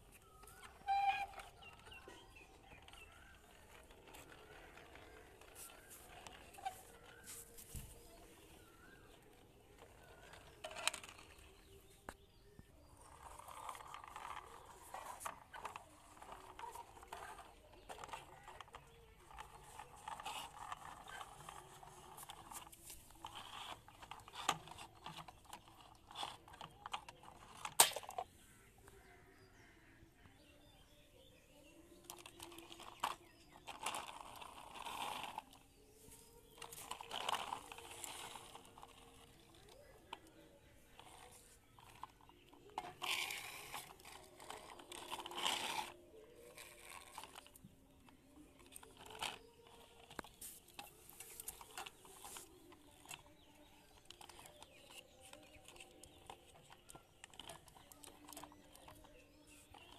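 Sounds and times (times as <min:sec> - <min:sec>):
plastic toy clicks and rattles: 0:00.0 - 0:29.0, 0:31.9 - 0:59.9.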